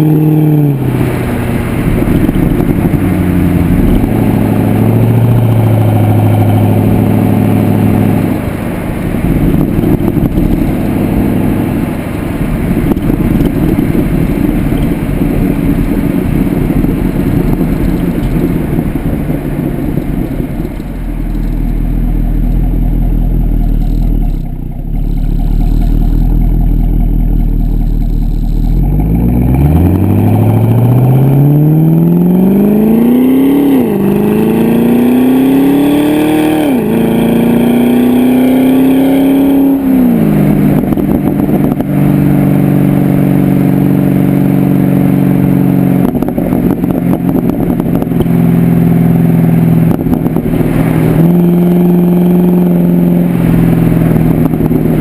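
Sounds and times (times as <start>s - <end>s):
car exhaust rumble and revs: 0.0s - 55.0s.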